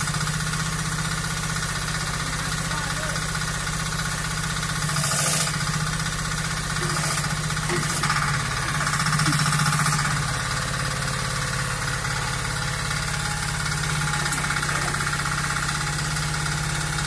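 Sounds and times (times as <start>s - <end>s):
mini excavator engine running: 0.0s - 17.0s.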